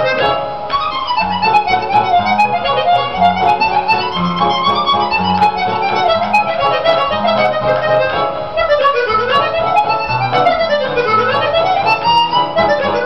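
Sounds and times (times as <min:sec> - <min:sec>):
harmonica melody: 0:00.0 - 0:13.0.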